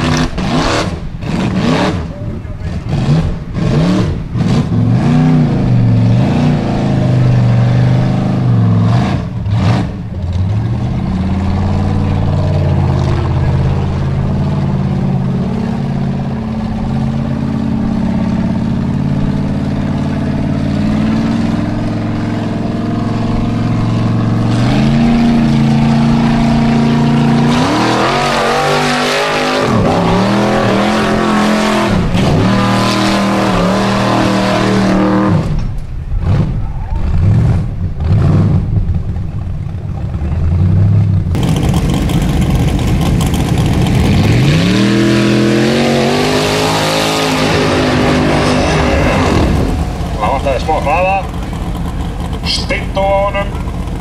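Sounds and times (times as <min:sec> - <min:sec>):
buggy engine revving hard: 0:00.0 - 0:54.0.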